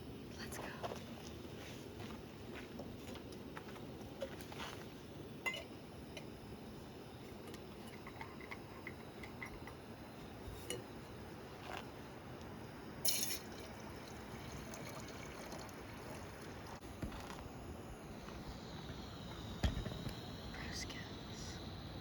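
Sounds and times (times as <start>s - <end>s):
steady low hiss: 0.0s - 22.0s.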